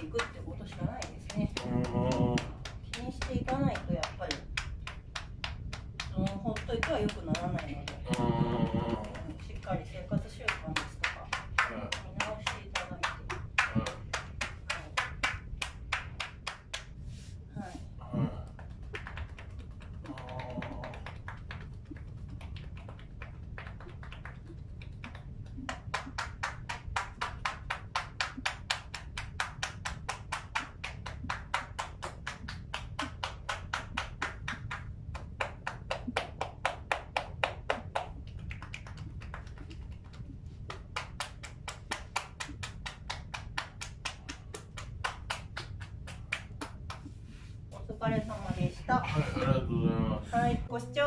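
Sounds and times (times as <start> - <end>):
hands tapping on shoulders: 0.0 - 49.0.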